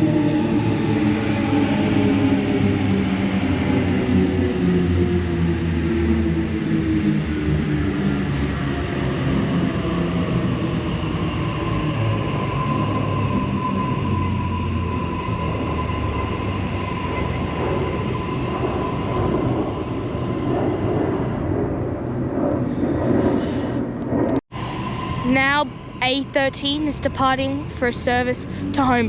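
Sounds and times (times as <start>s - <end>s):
electric train whine: 0.0s - 29.0s
rumble of rail and equipment: 0.0s - 29.0s.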